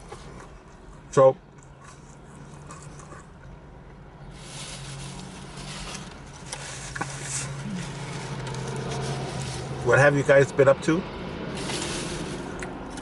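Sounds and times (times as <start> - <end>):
engine hum: 0.0 - 13.0
tyre and road noise: 0.0 - 13.0.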